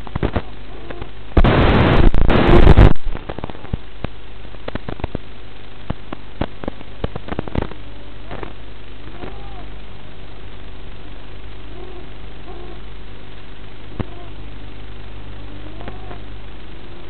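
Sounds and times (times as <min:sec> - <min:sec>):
harsh static burst: 0:00.0 - 0:17.0
static hiss with clicks: 0:00.0 - 0:17.0.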